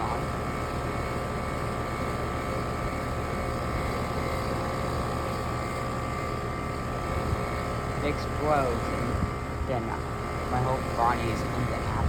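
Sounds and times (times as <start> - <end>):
air conditioner fan whir: 0.0 - 12.0
compressor hum: 0.0 - 12.0.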